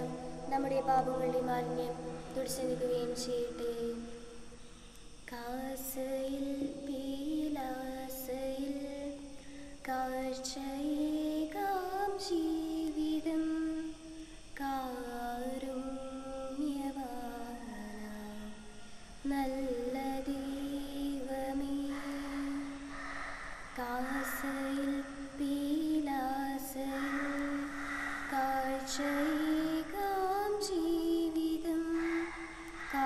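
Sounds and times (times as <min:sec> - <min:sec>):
person singing a slow hymn: 0:00.0 - 0:33.0.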